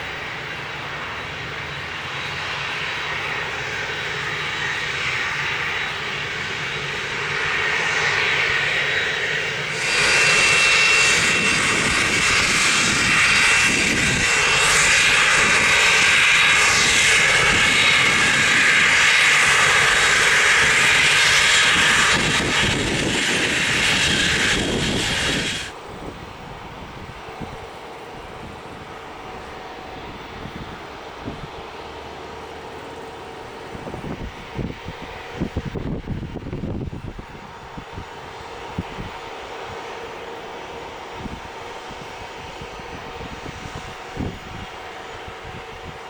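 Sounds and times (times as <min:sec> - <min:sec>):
jet engines rushing and whining: 0:00.0 - 0:46.0.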